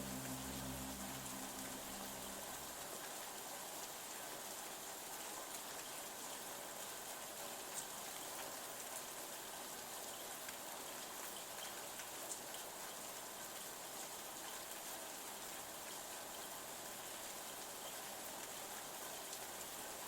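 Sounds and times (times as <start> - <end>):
rain on a window pane: 0.0 - 20.0.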